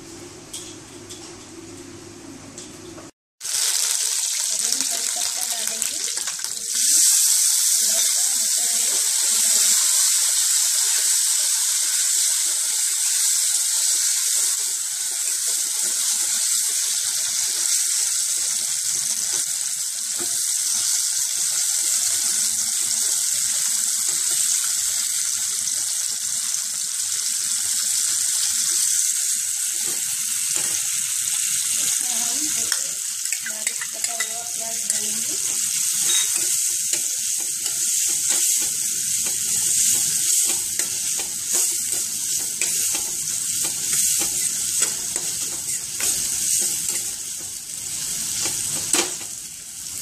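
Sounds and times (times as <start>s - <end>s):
peas sizzling in hot oil: 3.4s - 50.0s.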